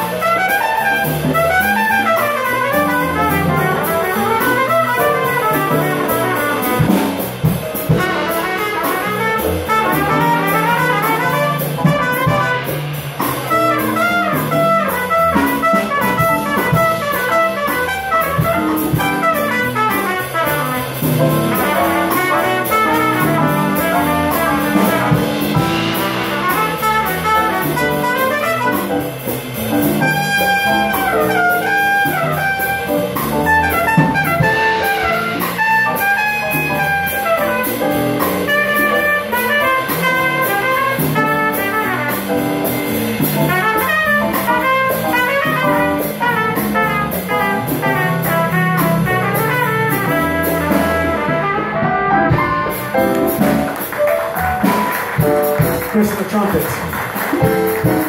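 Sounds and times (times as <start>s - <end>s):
cymbals: 0.0s - 51.7s
electric bass: 0.0s - 56.0s
congas: 0.0s - 58.0s
trumpet melody: 0.0s - 58.0s.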